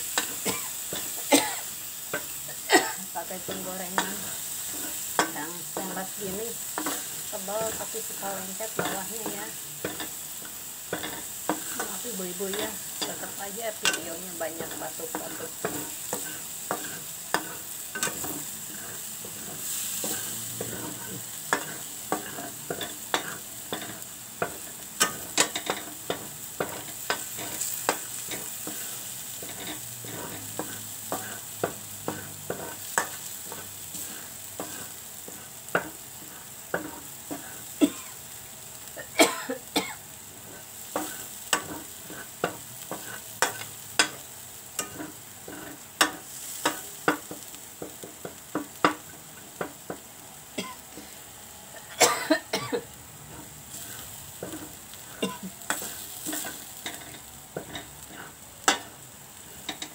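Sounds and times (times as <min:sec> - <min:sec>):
spice paste sizzling: 0:00.0 - 0:59.9
metal spoon scraping a pan: 0:00.1 - 0:01.3, 0:03.2 - 0:37.8, 0:40.4 - 0:50.0, 0:53.3 - 0:59.9.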